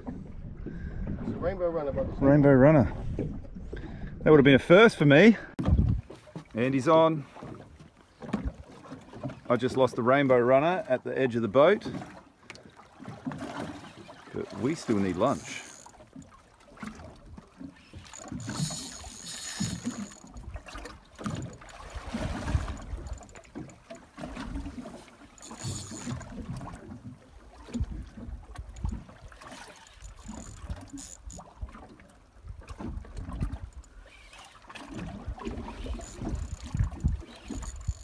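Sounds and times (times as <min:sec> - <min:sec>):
water lapping against boat hull: 0:02.8 - 0:04.5, 0:05.4 - 0:38.0.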